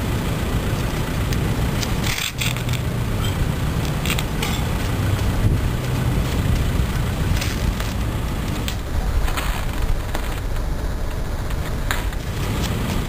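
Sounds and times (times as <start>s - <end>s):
road traffic: 0.0s - 13.0s
wind rumble: 0.0s - 13.0s
knocks and scrapes: 1.8s - 13.0s.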